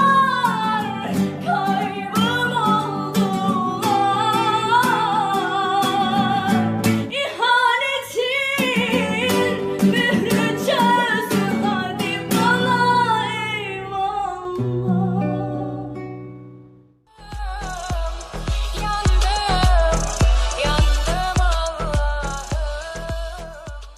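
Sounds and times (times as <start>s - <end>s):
girl singing: 0.0s - 16.1s, 17.1s - 23.9s
plucked guitar: 0.0s - 23.9s.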